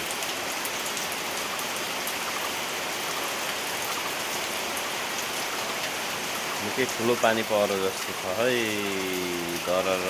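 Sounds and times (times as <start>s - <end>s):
heavy rain pouring: 0.0s - 10.0s
raindrops ticking on surface: 0.0s - 10.0s.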